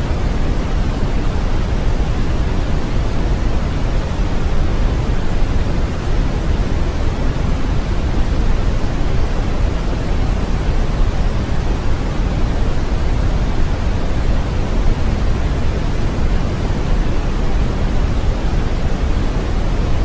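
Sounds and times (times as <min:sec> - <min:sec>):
brown noise: 0:00.0 - 0:20.0.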